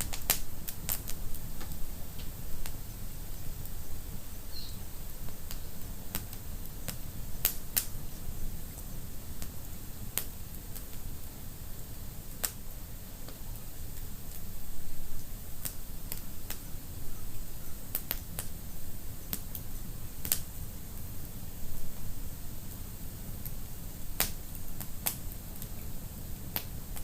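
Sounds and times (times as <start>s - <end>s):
fire popping: 0.0s - 16.8s, 17.4s - 27.0s
wood fire crackling: 0.0s - 27.0s.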